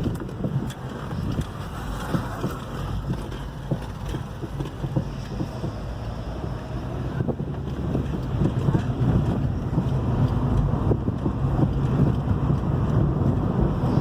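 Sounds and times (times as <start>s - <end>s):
road and tyre rumble: 0.0s - 14.0s
suspension knocks: 0.0s - 14.0s.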